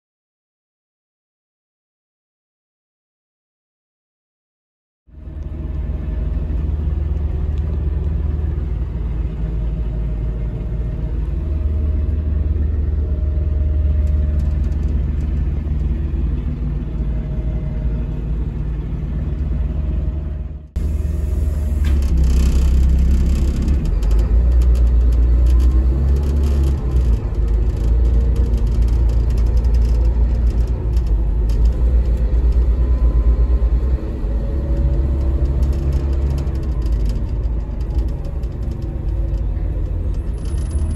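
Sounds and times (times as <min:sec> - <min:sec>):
bus engine rumble: 0:05.1 - 0:40.9
road noise: 0:05.1 - 0:40.9.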